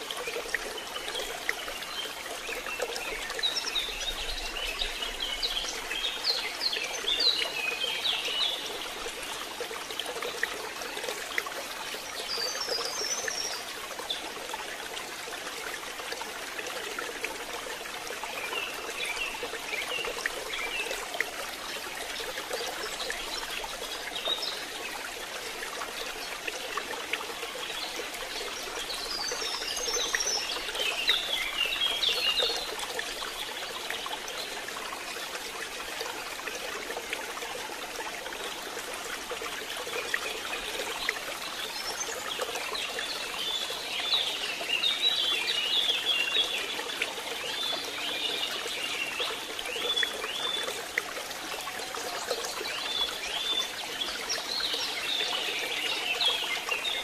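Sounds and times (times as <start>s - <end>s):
trickle of runoff: 0.0s - 57.0s.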